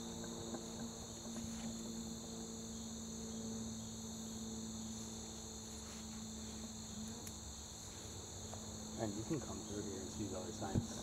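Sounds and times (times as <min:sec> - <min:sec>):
high-pitched insect chorus: 0:00.0 - 0:11.0
steady low hum: 0:00.0 - 0:11.0.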